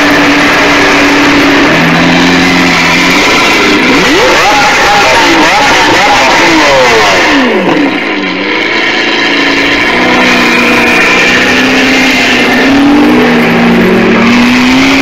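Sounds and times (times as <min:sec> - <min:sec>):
vehicle engine: 0:00.0 - 0:15.0.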